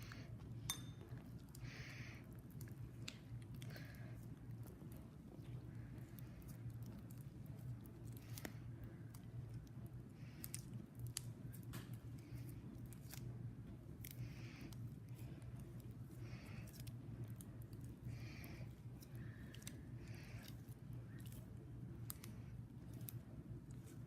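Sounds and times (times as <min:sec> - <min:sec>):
slime squelching by hand: 0:00.0 - 0:24.0
steady low hum: 0:00.0 - 0:24.0.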